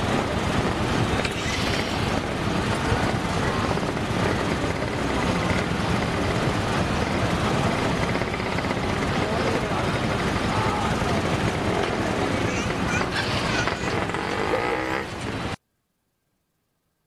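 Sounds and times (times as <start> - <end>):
bus and traffic engines: 0.0 - 15.6.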